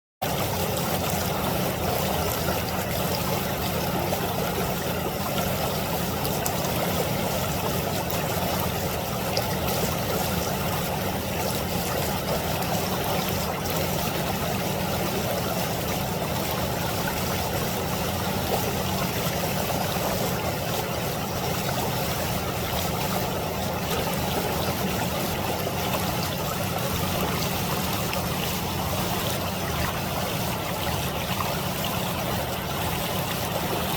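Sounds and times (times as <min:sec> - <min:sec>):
stream water flowing: 0:00.2 - 0:33.9.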